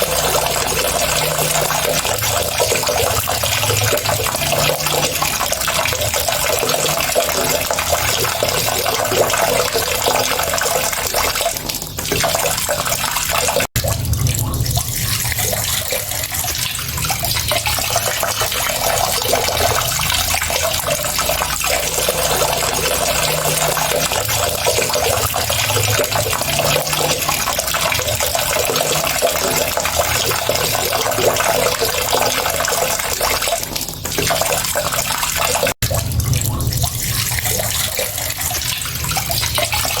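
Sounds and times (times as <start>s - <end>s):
water running: 0.0s - 40.0s.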